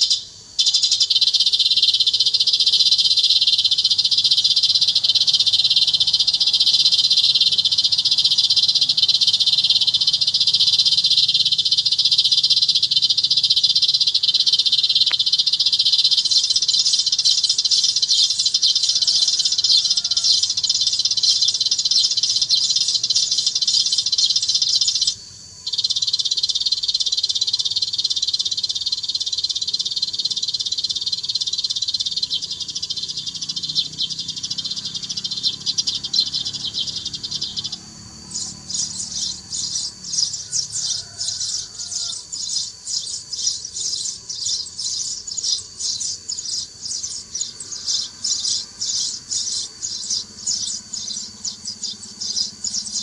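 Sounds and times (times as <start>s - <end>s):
recorded sparrow chirping: 0.0s - 53.0s.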